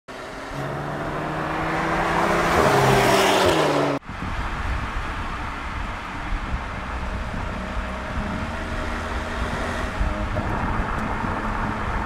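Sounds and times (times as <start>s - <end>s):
car engine and exhaust: 0.1s - 12.0s
wind and road noise: 0.1s - 12.0s.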